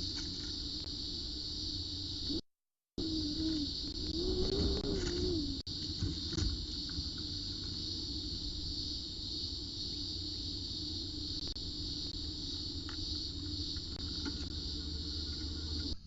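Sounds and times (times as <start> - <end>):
cicadas buzzing: 0.0 - 2.4, 3.0 - 16.0
low hum: 3.0 - 16.0.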